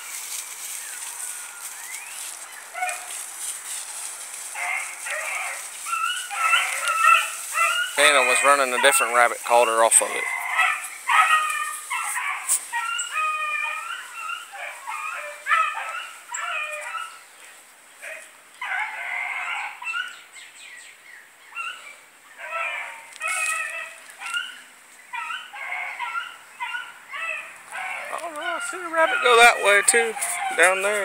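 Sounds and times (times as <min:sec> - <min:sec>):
hounds baying: 0:00.9 - 0:17.3, 0:18.0 - 0:20.3, 0:21.5 - 0:31.0.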